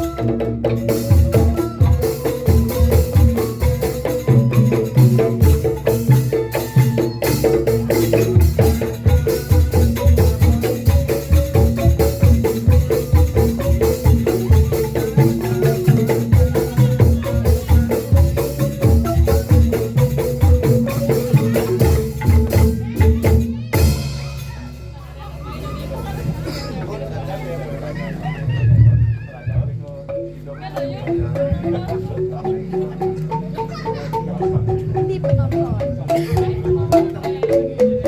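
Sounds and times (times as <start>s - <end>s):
fast drum beats: 0.0s - 26.6s, 28.5s - 38.0s
pitched percussion repeating notes: 0.0s - 26.6s, 29.9s - 38.0s.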